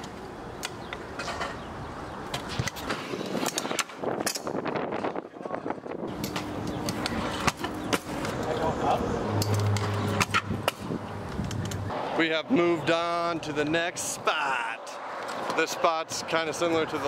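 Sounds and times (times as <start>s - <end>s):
scooter wheels rolling on asphalt: 0.0s - 12.2s, 14.8s - 17.0s.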